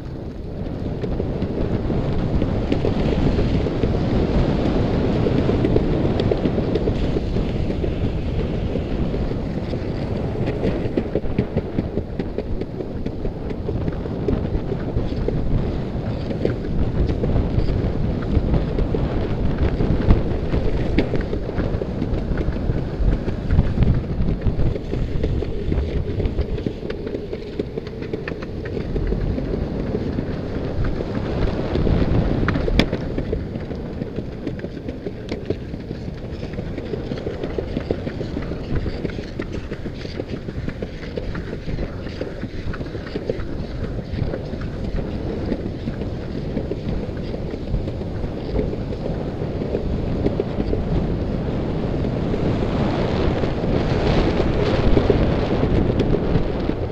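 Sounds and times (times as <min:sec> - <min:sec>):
longboard wheels rolling on asphalt: 0:00.0 - 0:56.9
wind buffeting microphone: 0:00.0 - 0:56.9.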